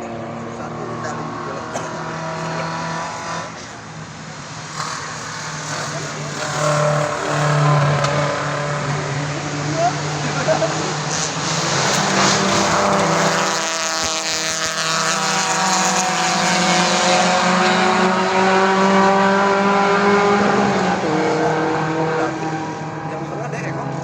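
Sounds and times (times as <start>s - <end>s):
racing car engine at high revs: 0.0s - 24.0s.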